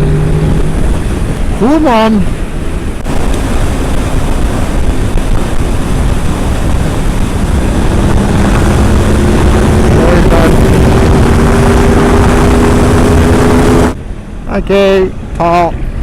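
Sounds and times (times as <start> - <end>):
motorcycle engine running: 0.0 - 14.0
wind noise on microphone: 0.0 - 14.4.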